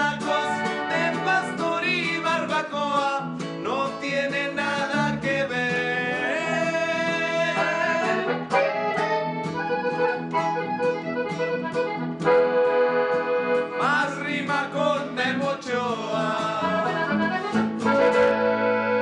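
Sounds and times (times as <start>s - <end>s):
accordion-led folk music: 0.0s - 19.0s.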